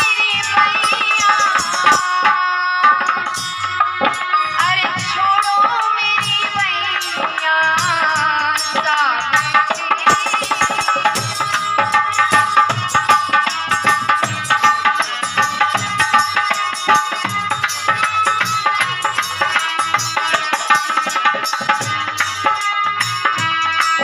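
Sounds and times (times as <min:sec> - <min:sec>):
tabla playing fast rhythm: 0:00.0 - 0:24.0.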